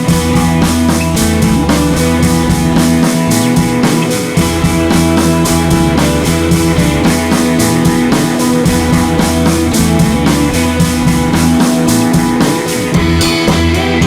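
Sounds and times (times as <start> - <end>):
rock music with guitar and drums: 0.0 - 14.0.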